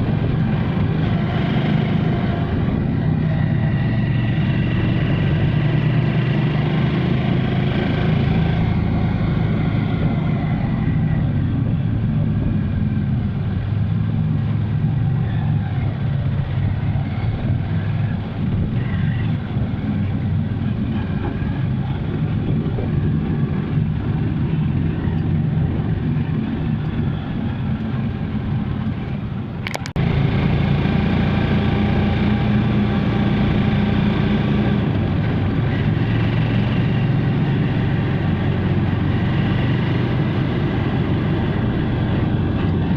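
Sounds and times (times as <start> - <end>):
road noise: 0.0 - 42.9
vehicle engine running: 0.0 - 42.9.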